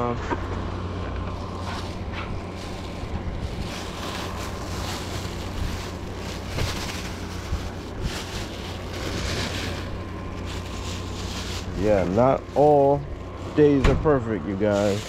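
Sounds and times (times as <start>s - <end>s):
low hum: 0.0s - 14.6s
plastic bag rustling: 1.2s - 15.0s.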